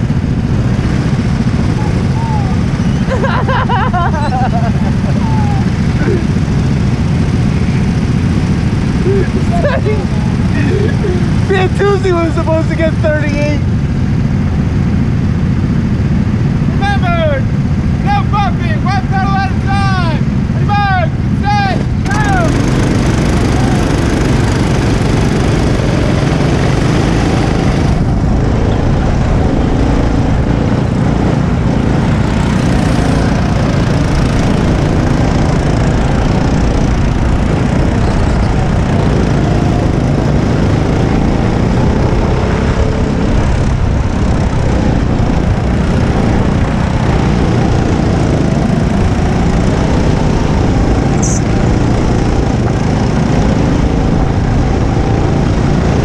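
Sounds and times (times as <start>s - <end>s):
go-kart engine running hard: 0.0s - 56.0s.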